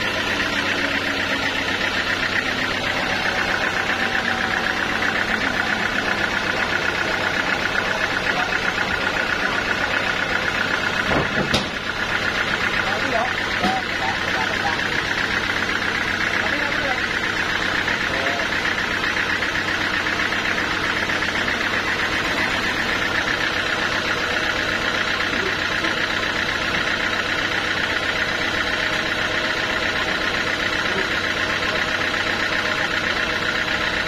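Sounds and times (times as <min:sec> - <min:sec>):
high machine whine: 0:00.0 - 0:34.0
sawmill machinery humming: 0:00.0 - 0:34.0.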